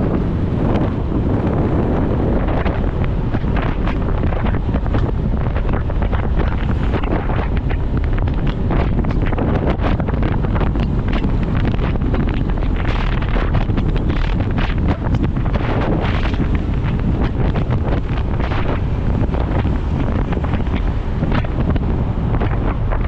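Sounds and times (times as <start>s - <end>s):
motorcycle running: 0.0s - 23.0s
wind buffeting microphone: 0.0s - 23.0s.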